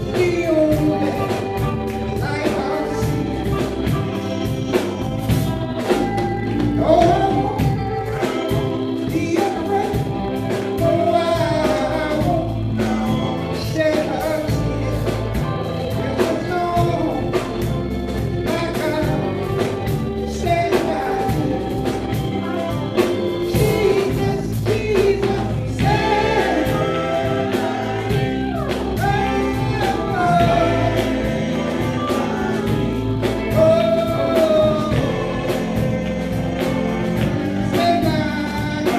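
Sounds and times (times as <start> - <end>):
bass line: 0.0 - 38.9
drum beat: 0.0 - 38.9
vocal group singing: 0.0 - 38.9.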